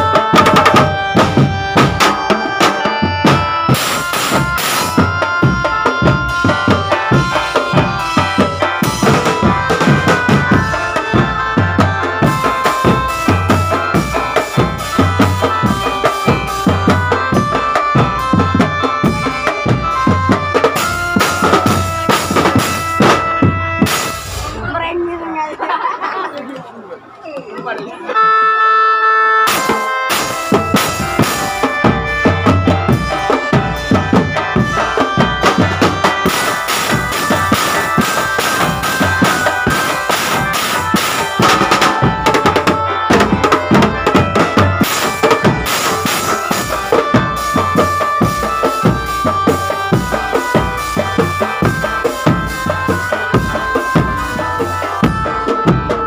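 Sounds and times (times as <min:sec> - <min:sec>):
bass drums and toms beating: 0:00.0 - 0:25.3, 0:29.4 - 0:56.0
keyboard melody: 0:00.0 - 0:26.3, 0:27.5 - 0:56.0.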